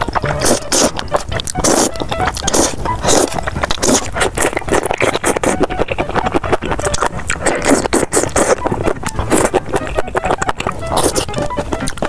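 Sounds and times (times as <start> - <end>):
mushrooms being chewed: 0.0 - 12.0.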